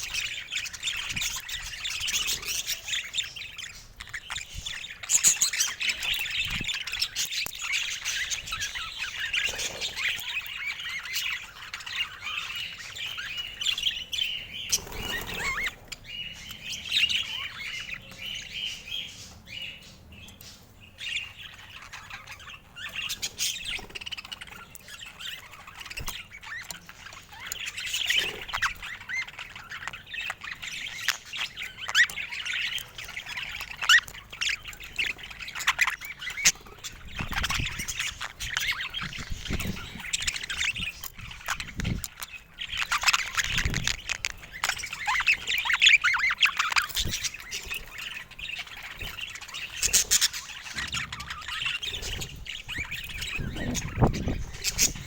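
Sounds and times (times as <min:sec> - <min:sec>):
bird squawks: 0:00.0 - 0:55.0
budgerigars chattering: 0:00.0 - 0:55.0.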